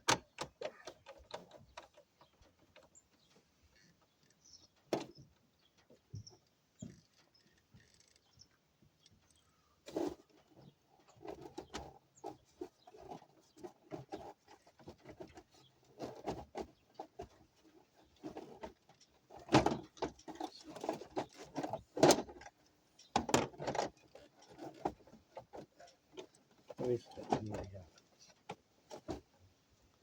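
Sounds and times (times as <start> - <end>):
irregular clicks and knocks: 0.0 - 29.4.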